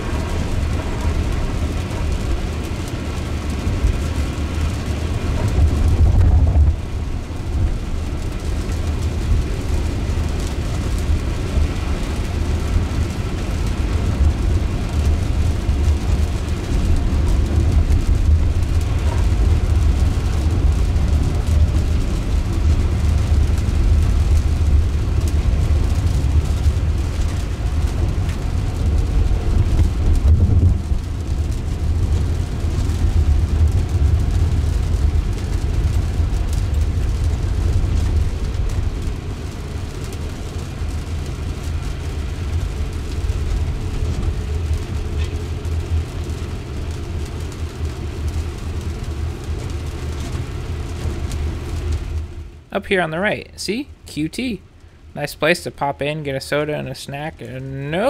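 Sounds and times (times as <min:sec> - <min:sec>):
tyres rumbling on wet road: 0:00.0 - 0:58.0.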